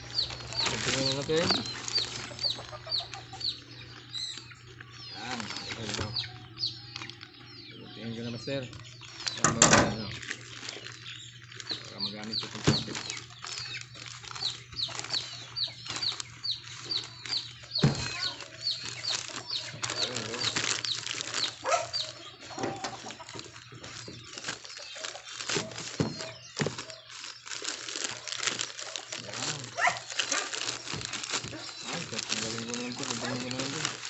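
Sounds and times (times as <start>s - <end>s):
bird chirping: 0.0s - 34.0s
plastic wrapping rustling: 0.0s - 34.0s.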